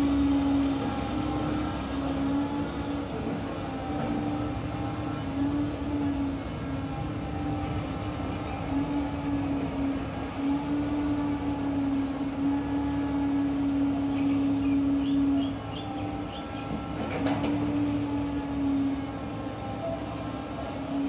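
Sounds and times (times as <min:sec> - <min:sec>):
excavator engine droning: 0:00.0 - 0:21.0.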